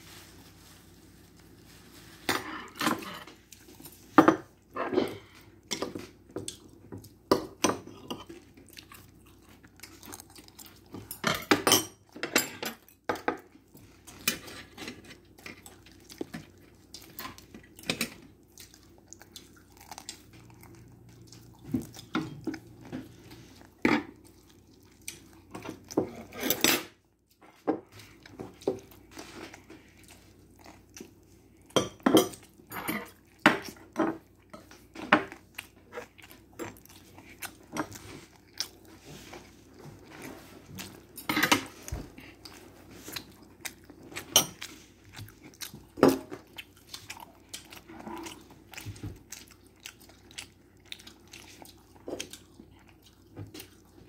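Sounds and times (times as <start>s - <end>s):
child chewing food: 0.0s - 54.0s.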